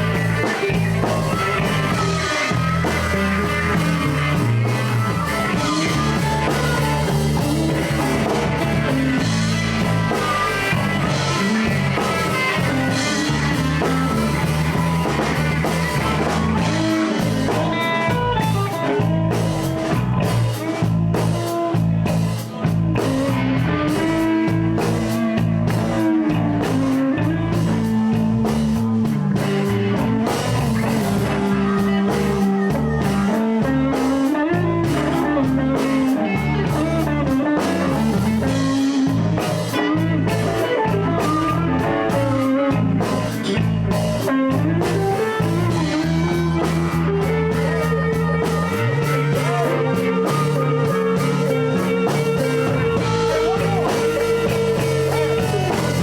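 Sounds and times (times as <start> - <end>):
bass: 0.0 - 56.0
drum kit: 0.0 - 56.0
electric guitar: 0.0 - 56.0.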